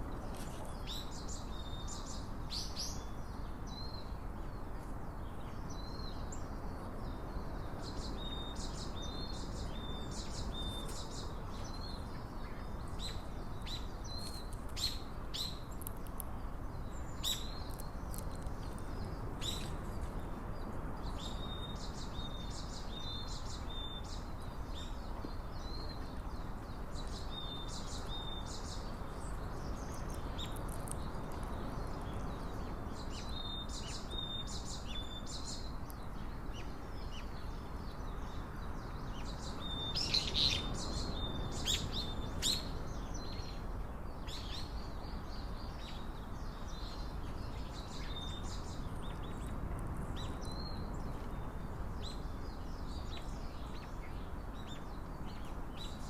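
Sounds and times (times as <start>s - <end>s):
small songbirds chipping: 0.0s - 56.0s.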